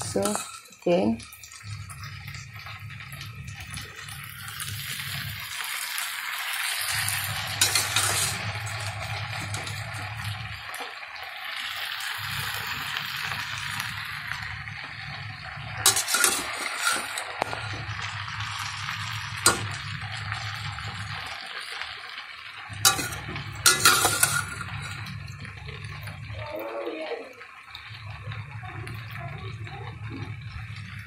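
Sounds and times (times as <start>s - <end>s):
noodles sizzling in a frying pan: 0.0s - 31.0s.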